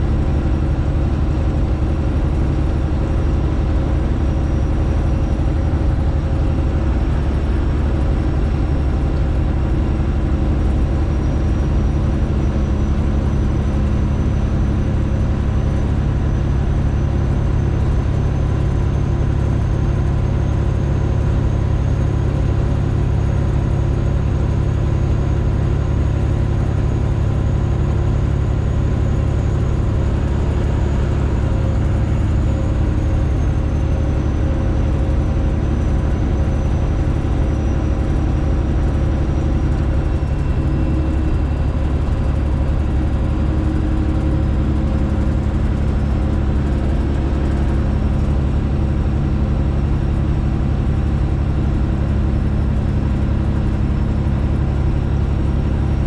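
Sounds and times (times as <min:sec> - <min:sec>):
truck diesel engine drone: 0:00.0 - 0:56.0.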